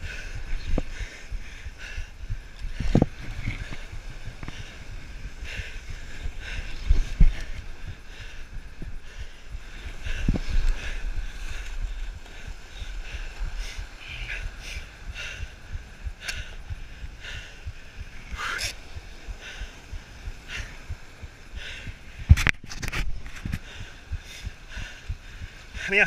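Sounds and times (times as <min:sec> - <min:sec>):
wind rumbling on microphone: 0:00.0 - 0:26.0
surf washing over rocks: 0:02.5 - 0:24.7, 0:25.4 - 0:26.0.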